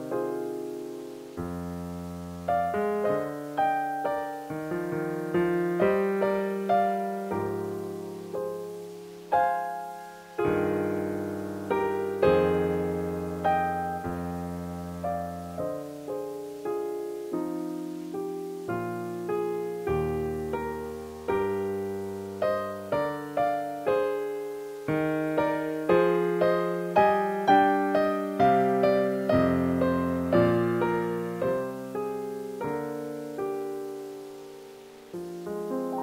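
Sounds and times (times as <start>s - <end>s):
solo piano music: 0.0s - 36.0s.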